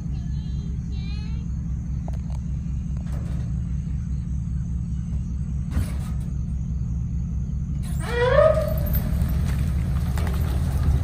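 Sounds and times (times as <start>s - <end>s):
motor pulsing rumble: 0.0s - 11.0s.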